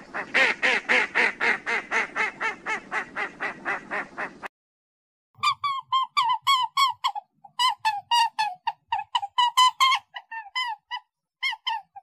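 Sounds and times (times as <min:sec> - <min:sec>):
bird calling: 0:00.0 - 0:04.5, 0:05.4 - 0:12.0.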